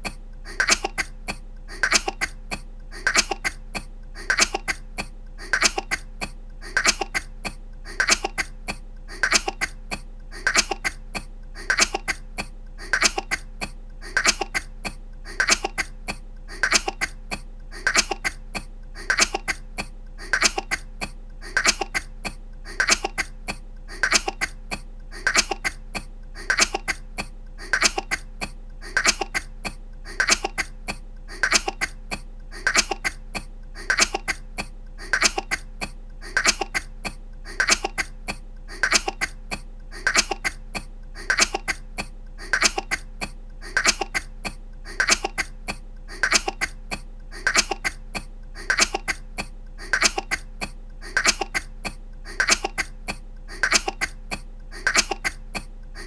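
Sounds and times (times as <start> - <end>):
faint low hum: 0.0 - 56.0
woman coughing: 0.0 - 56.0.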